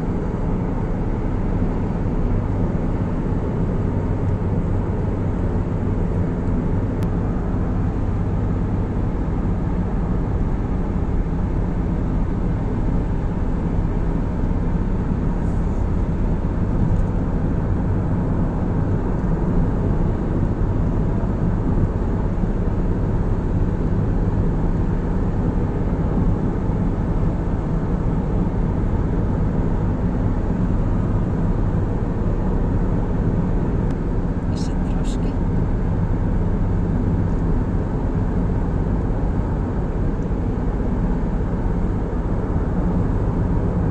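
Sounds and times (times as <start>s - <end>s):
car driving on road: 0.0s - 43.9s.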